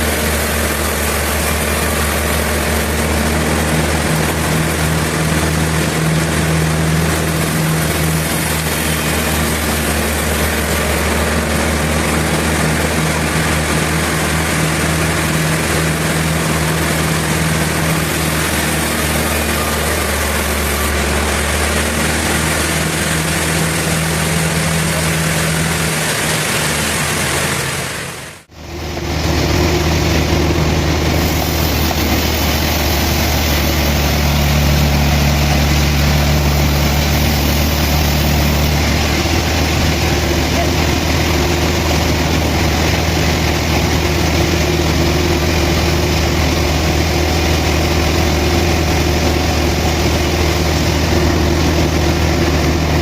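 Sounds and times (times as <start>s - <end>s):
engine humming: 0.0s - 53.0s
machinery hiss: 0.0s - 53.0s.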